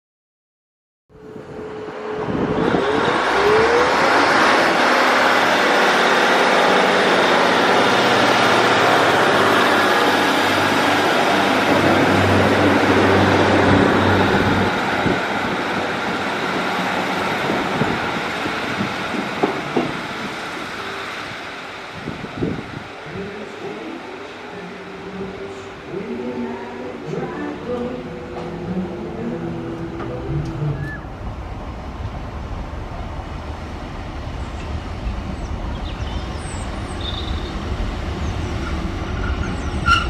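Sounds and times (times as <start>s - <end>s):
diesel train engine pulling away: 1.2s - 40.0s.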